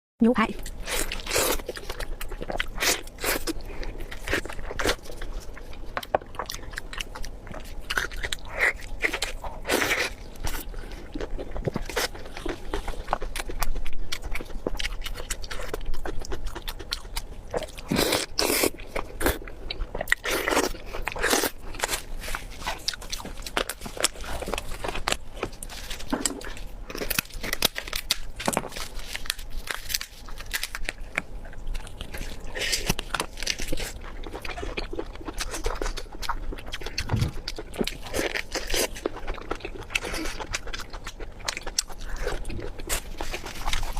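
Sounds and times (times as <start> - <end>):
person chewing and biting: 0.6 - 43.9.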